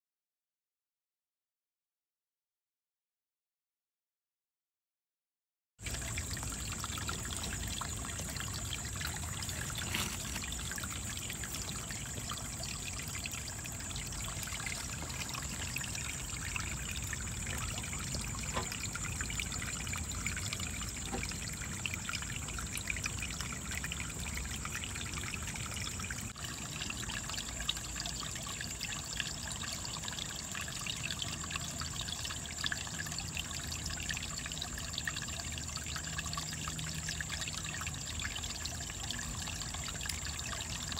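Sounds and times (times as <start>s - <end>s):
stream trickling over stones: 5.8s - 40.9s.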